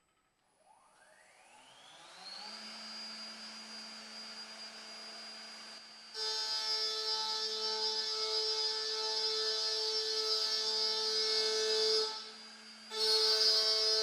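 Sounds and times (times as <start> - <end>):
router spindle whine: 0.6 - 14.0.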